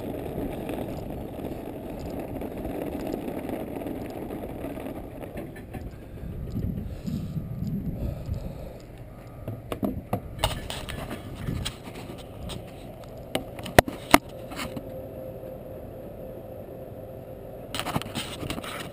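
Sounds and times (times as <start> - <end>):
faint steady hum: 0.0 - 18.9
wind rumbling on microphone: 0.0 - 18.9.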